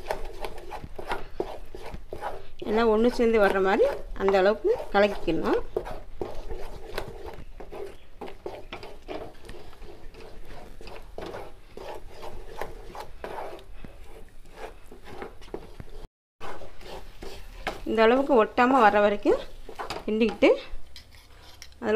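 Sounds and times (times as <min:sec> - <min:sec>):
spoon scraping a pan: 0:00.0 - 0:21.9.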